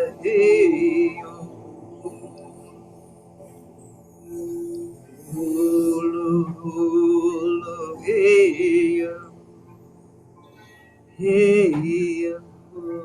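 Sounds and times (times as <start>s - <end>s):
meditative long wavering tones: 0.0s - 13.0s.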